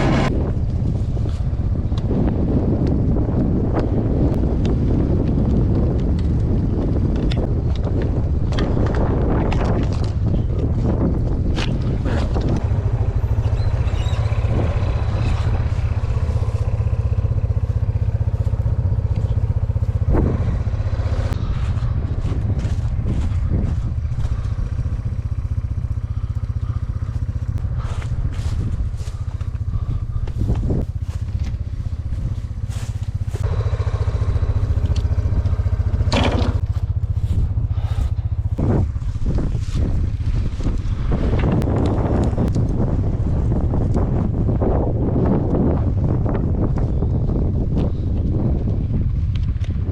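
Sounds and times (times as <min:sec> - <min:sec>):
wind rushing: 0:00.0 - 0:49.2
vehicle engine running: 0:00.0 - 0:49.9.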